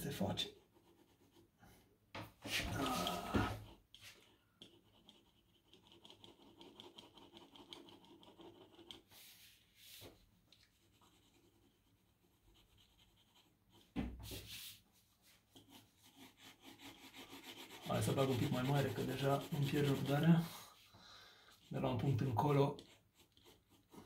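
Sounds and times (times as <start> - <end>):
pencil scratching on paper: 0.1 - 1.8, 2.4 - 20.9, 21.5 - 24.0.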